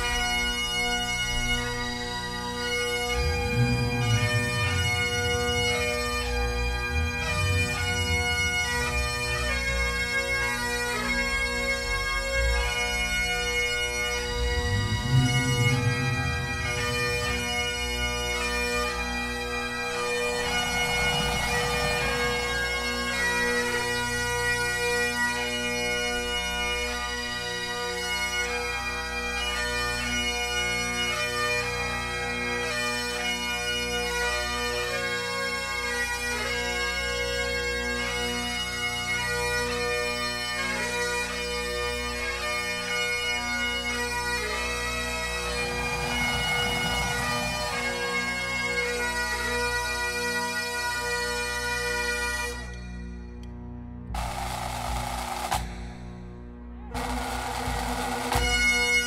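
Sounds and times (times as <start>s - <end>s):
bagpipe chanter melody: 0.0s - 53.5s, 56.9s - 59.0s
bagpipe drones humming: 0.0s - 59.0s.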